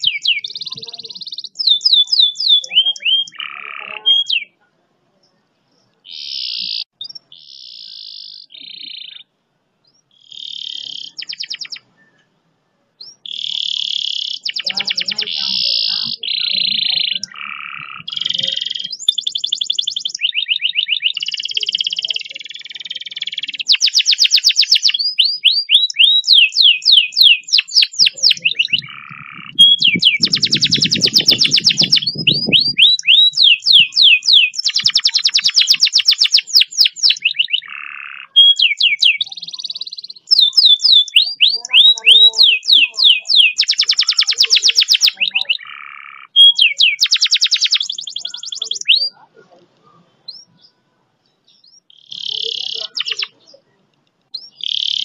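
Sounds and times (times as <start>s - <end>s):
canary singing trills: 0.0s - 12.4s, 13.0s - 55.0s.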